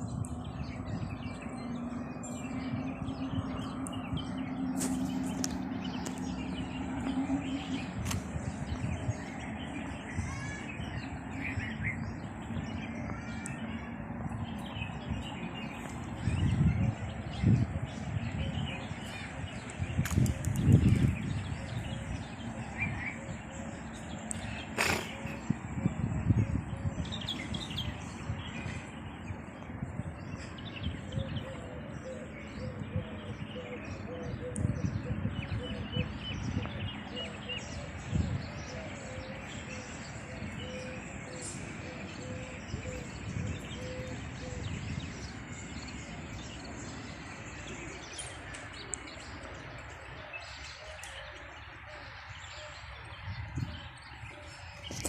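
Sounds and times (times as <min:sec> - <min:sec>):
birds chirping and twittering: 0:00.0 - 0:55.0.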